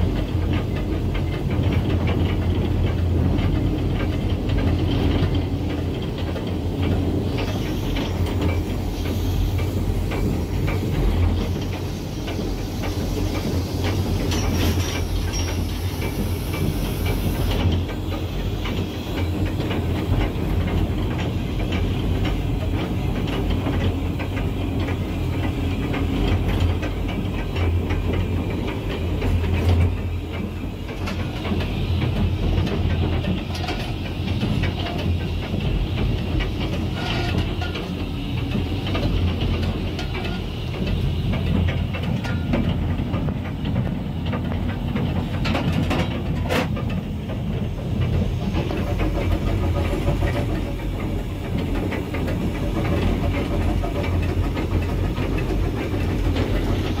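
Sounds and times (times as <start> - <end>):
steam locomotive wheels clattering: 0.0 - 57.0.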